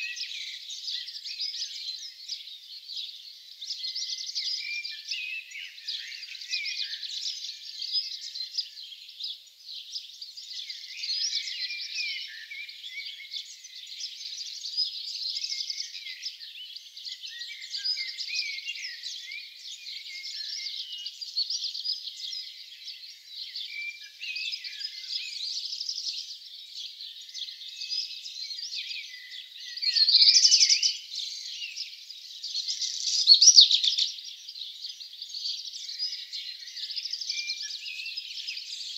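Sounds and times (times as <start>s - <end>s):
louder bird song: 0.0s - 38.9s
songbirds singing: 0.0s - 38.9s.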